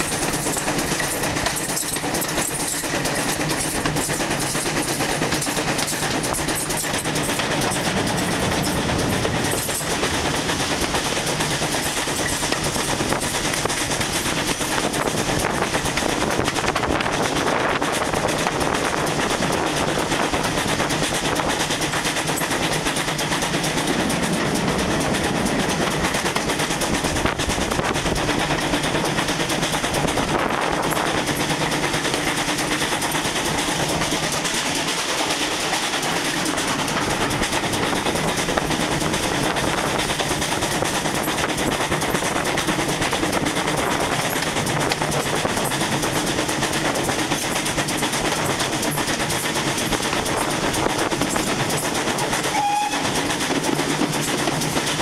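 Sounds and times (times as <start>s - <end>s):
steam locomotive exhaust beats: 0.0s - 55.0s
train wheels running over rails: 0.0s - 55.0s.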